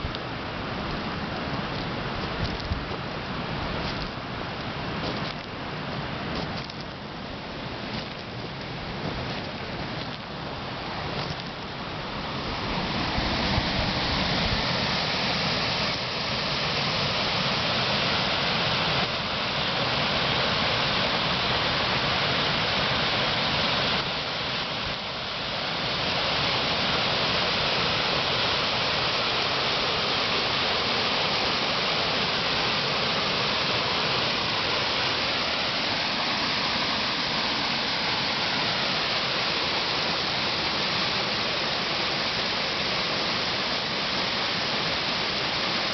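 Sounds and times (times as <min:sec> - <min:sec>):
fast-flowing water rushing: 0:00.0 - 0:45.9.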